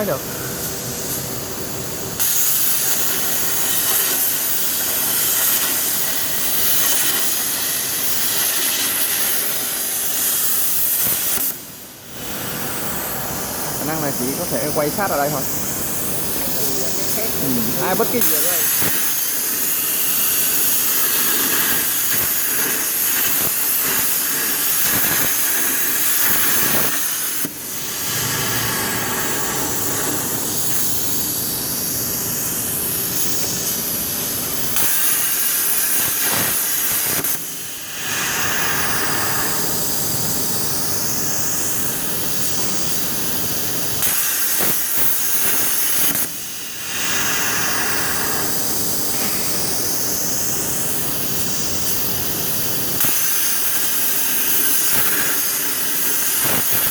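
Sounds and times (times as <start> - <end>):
plasma torch hissing: 0.0 - 56.9.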